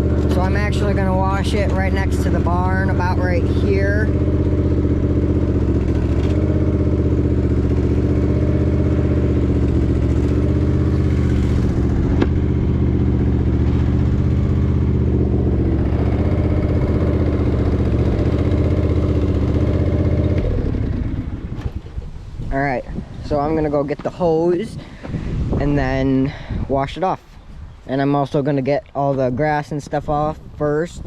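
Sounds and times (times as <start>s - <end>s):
riding mower engine running: 0.0s - 30.8s.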